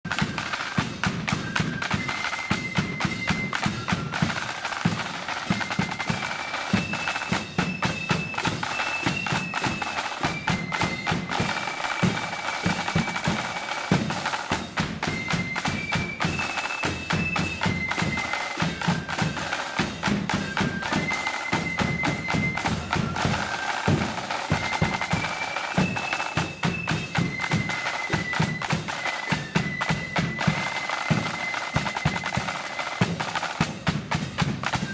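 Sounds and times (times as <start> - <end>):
flutes playing melody: 0.1 - 34.9
rapid snare drum strokes: 0.1 - 34.9.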